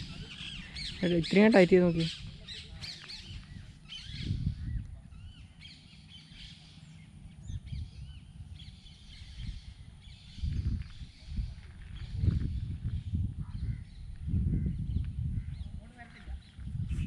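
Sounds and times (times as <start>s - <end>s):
wind buffeting microphone: 0.0s - 6.5s, 7.1s - 17.0s
birds chirping: 0.0s - 16.9s.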